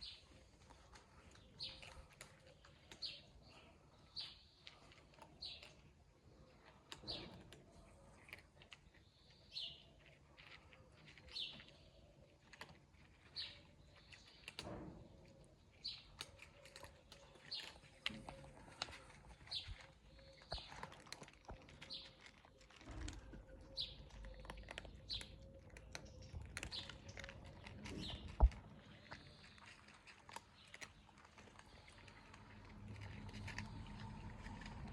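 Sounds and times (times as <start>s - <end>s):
cats eating: 0.0s - 34.9s
small bird chirping: 0.0s - 34.9s.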